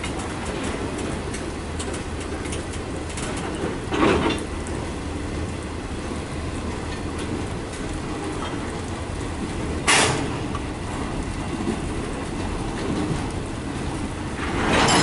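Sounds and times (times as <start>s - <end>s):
wheel clicks over rail joints: 0.0s - 5.6s, 6.7s - 15.0s
freight train rumbling past: 0.0s - 15.0s.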